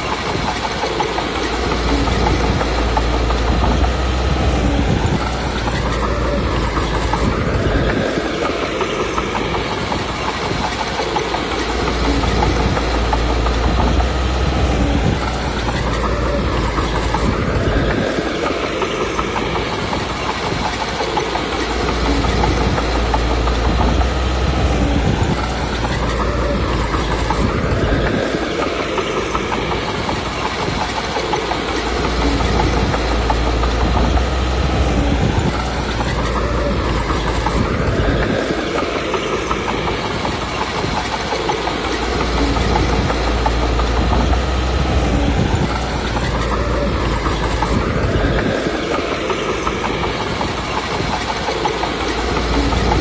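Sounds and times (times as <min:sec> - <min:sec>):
bulldozer engine and tracks: 0:00.0 - 0:53.0.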